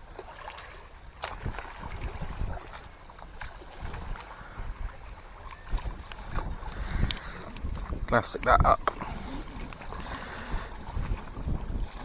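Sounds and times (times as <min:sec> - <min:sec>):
sea washing against rocks: 0:00.0 - 0:12.0
wind on microphone: 0:00.0 - 0:12.0.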